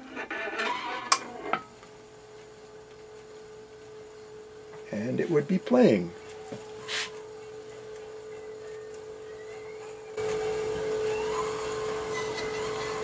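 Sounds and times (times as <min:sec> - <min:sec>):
record player motor hum: 0:00.0 - 0:13.0.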